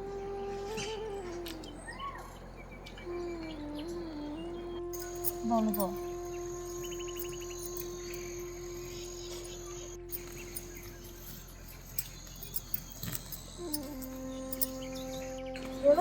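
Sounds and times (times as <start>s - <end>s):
music of long held notes: 0.0s - 16.0s
high insect trill: 3.1s - 16.0s.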